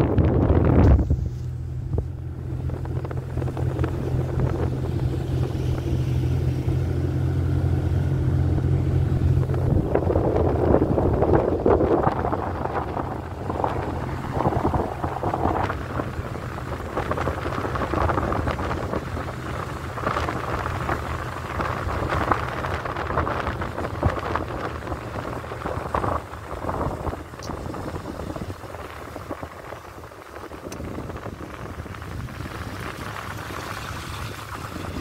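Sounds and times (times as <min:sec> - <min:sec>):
car engine hum: 0:00.0 - 0:35.0
tyres crackling on packed snow: 0:00.5 - 0:35.0.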